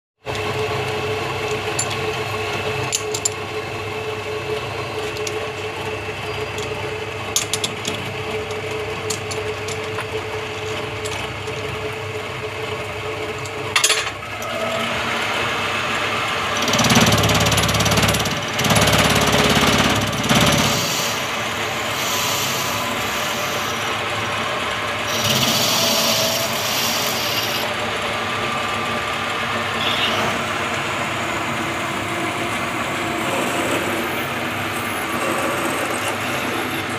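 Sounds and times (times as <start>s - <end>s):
metal lathe humming: 0.3s - 36.9s
rough lathe noise: 0.4s - 36.9s.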